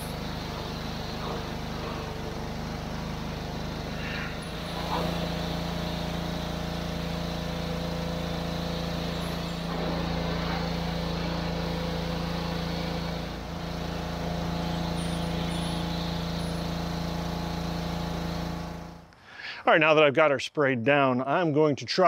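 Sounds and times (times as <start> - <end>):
pressure washer spraying water: 0.0 - 19.1.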